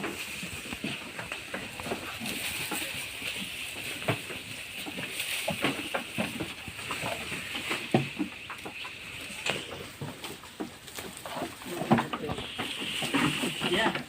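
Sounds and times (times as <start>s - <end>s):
steady high hiss: 0.1s - 14.0s.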